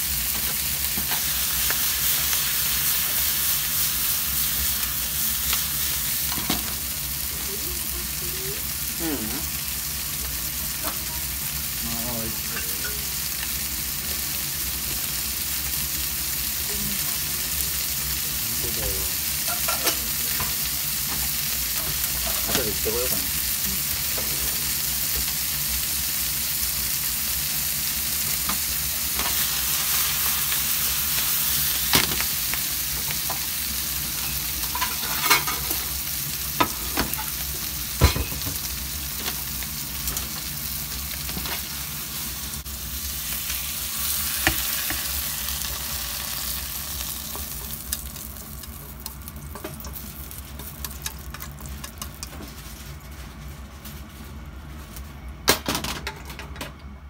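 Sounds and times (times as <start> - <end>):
food sizzling in a frying pan: 0.0 - 54.8.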